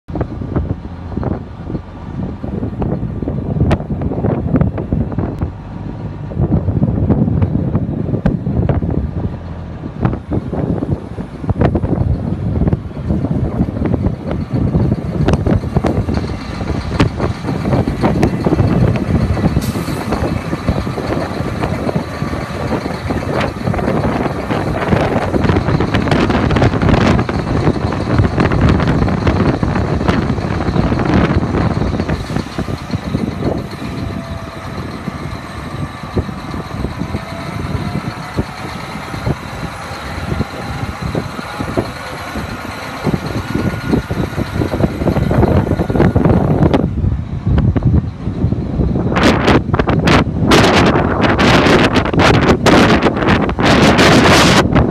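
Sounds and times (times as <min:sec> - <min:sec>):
faint engine whine: 0:00.1 - 0:54.9
tractor diesel engine rumbling: 0:00.1 - 0:54.9.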